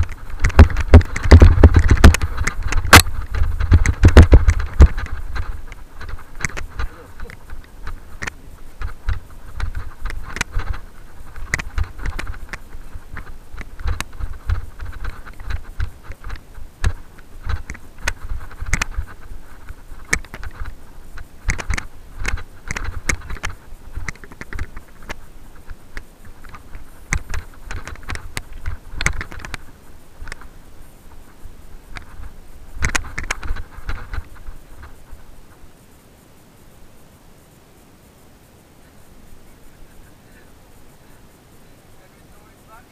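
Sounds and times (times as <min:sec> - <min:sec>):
mountain bike rattling on trail: 0:00.0 - 0:35.9
wind rumble: 0:00.0 - 0:42.9.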